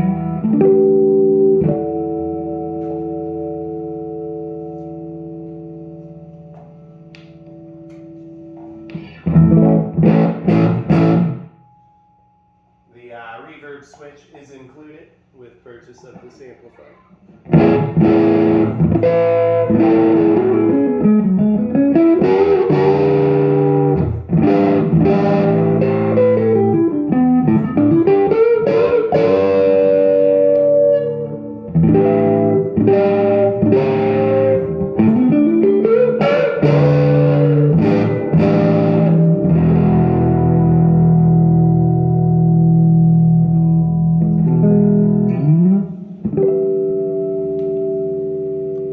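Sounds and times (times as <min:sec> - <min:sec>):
electric guitar strummed chords: 0:00.0 - 0:11.9, 0:17.4 - 0:48.9.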